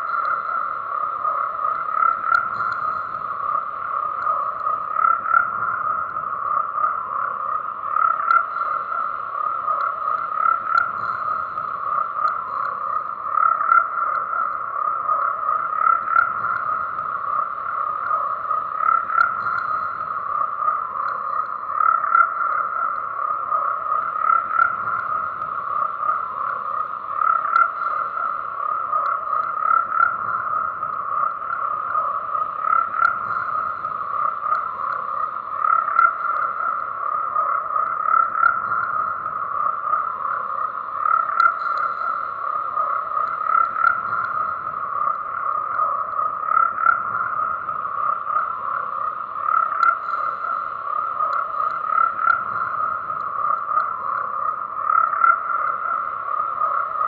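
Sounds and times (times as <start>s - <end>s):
frogs croaking in chorus: 0.0s - 57.0s.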